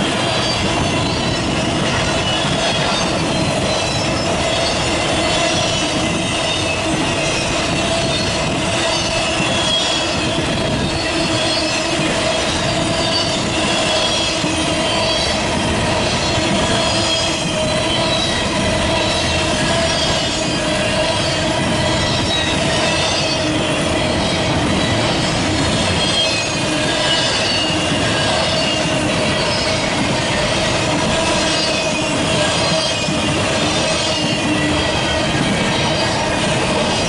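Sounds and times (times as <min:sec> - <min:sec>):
freight train cars rolling: 0:00.0 - 0:37.0
train clickety-clack: 0:00.0 - 0:37.0.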